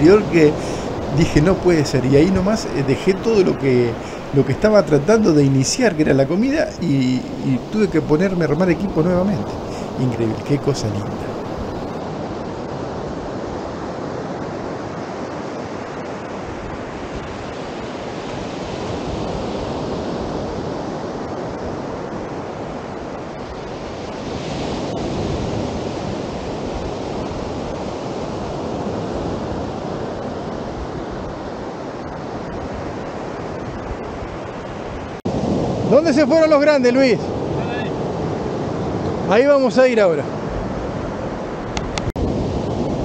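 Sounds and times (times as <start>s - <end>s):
wind on the microphone: 0.0s - 36.5s, 40.2s - 43.0s
waves breaking on a beach: 0.0s - 43.0s.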